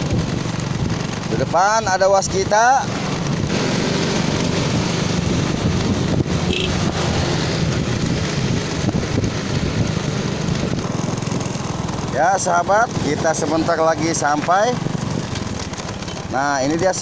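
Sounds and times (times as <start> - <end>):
motorbike engine cruising: 0.0 - 17.0
wind buffeting microphone: 0.0 - 17.0.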